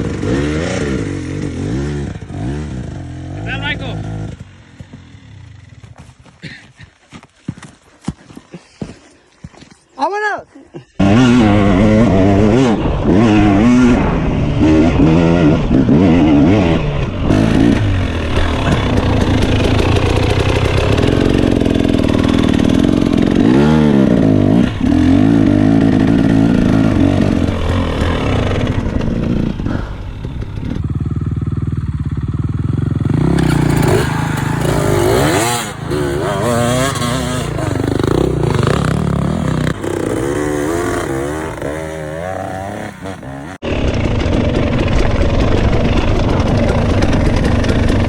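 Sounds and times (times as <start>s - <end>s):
dirt bike engine revving: 0.0s - 6.0s, 11.0s - 48.0s.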